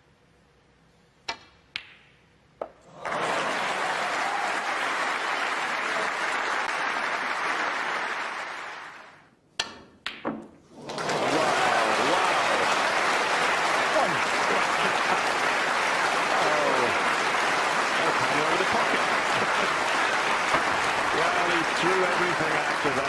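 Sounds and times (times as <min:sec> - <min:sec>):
audience applauding: 0:02.9 - 0:09.2, 0:10.8 - 0:23.0.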